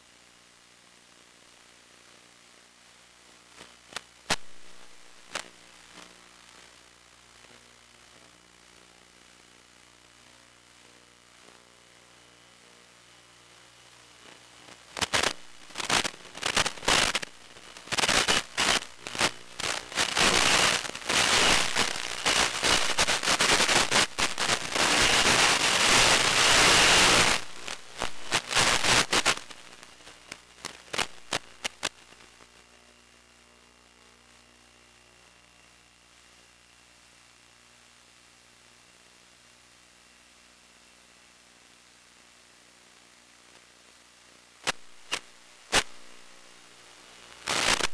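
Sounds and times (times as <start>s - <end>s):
radio static crackling and hissing: 0.0s - 47.9s.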